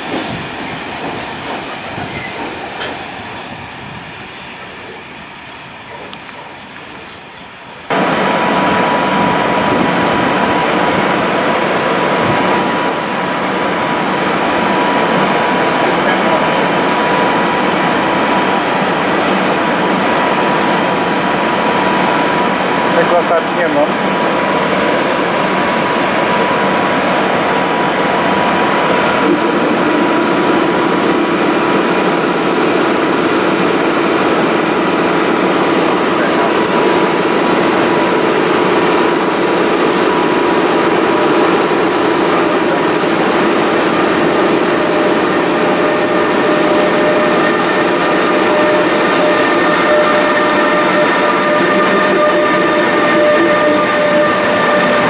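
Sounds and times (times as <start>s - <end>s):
electric locomotive whine: 0.0s - 55.0s
rolling rail traffic: 0.0s - 55.0s.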